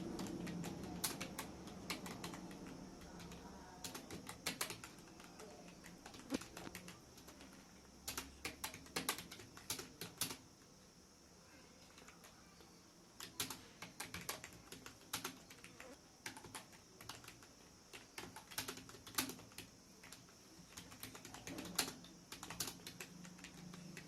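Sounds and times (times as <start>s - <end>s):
typing on computer keyboard: 0.0s - 10.5s, 11.8s - 12.4s, 13.2s - 24.0s.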